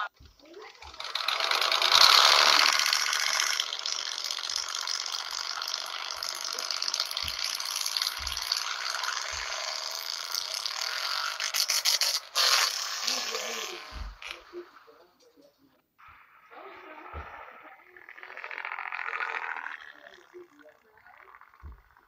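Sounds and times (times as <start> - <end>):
tyres spinning on asphalt: 0.0 - 15.0, 16.0 - 22.0.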